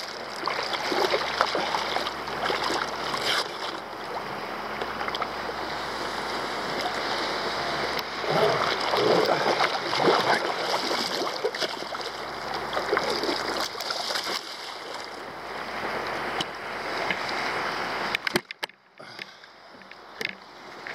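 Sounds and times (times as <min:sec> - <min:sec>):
water rushing and splashing: 0:00.0 - 0:20.9.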